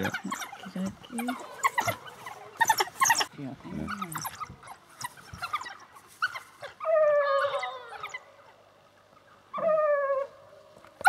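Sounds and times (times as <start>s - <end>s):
wild dogs whining calls: 0.0s - 10.5s
wild dogs chirping and yelping: 0.0s - 11.0s.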